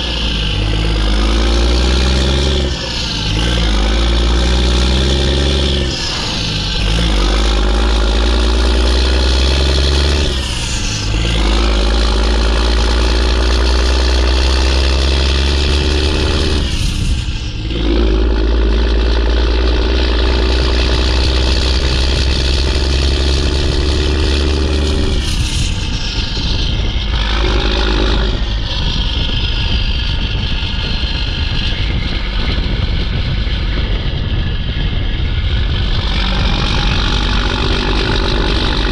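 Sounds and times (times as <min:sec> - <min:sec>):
truck engine pulling under load: 0:00.0 - 0:38.9.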